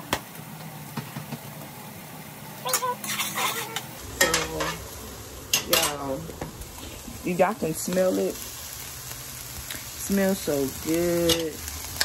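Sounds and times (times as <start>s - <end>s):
vegetables sauteing in a pan: 0.2s - 12.0s.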